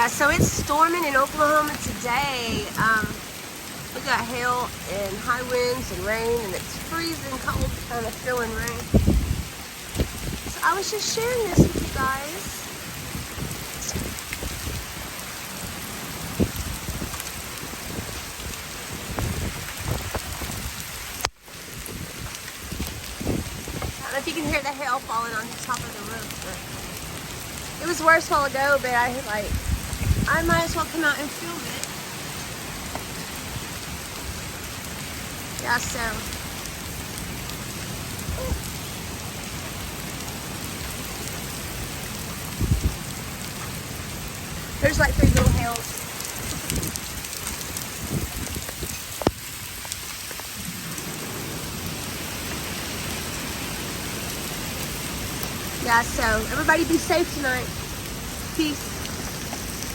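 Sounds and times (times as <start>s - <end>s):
hailstones ticking: 0.0s - 59.9s
rain on a roof: 0.0s - 59.9s.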